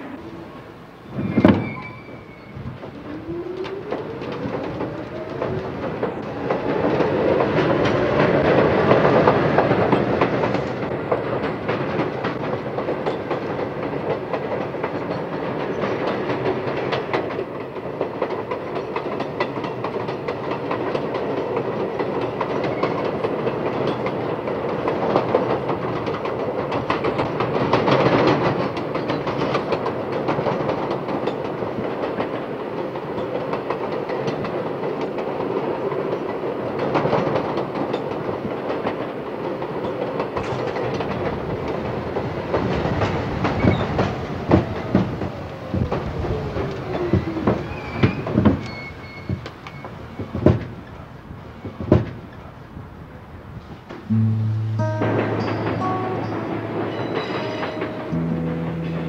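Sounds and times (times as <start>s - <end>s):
wheels clacking over rail joints: 0.0s - 54.1s, 55.0s - 59.0s
subway train motors whining: 0.0s - 59.0s.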